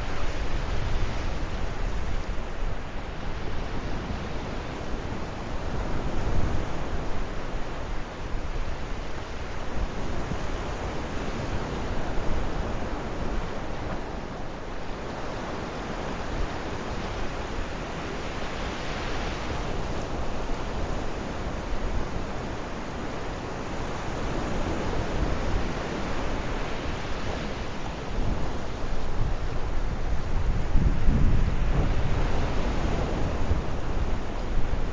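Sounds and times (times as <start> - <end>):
low wind rumble: 0.0 - 34.9
sea waves washing ashore: 0.0 - 34.9.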